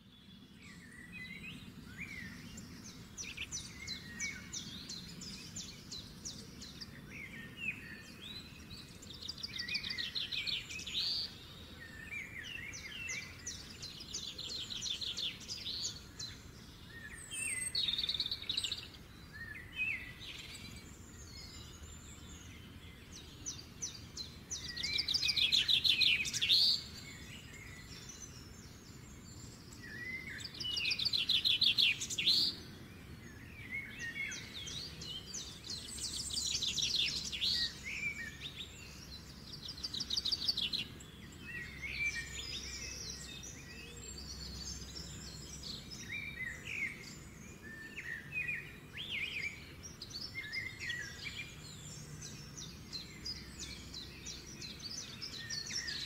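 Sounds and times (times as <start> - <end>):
low steady background noise: 0.0 - 56.0
songbirds singing and trilling: 0.0 - 56.0.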